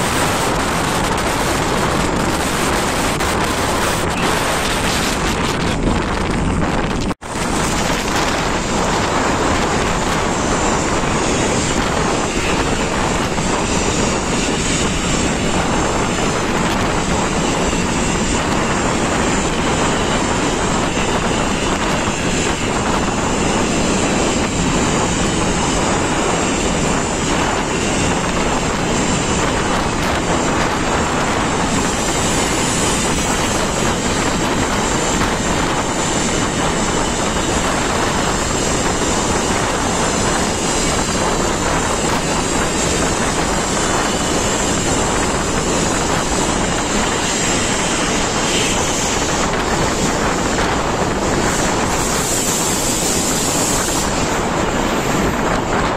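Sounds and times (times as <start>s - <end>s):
sea churning along ship hull: 0.0s - 55.9s
wind roaring on microphone: 0.0s - 55.9s.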